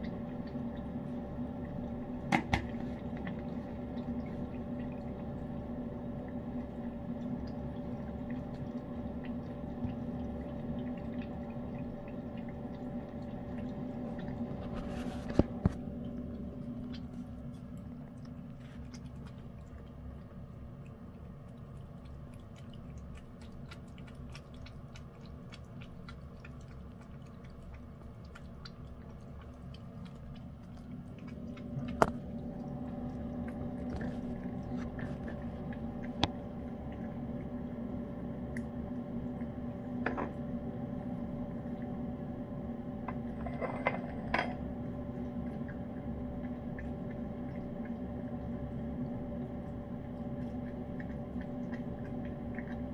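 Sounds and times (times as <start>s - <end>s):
cat chewing and lapping food: 0.0s - 52.9s
steady low hum: 0.0s - 52.9s.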